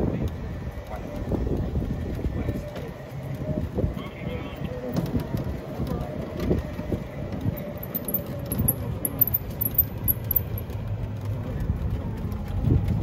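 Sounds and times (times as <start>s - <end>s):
buggy running rumble: 0.0s - 13.0s
wind over open sides: 0.0s - 13.0s.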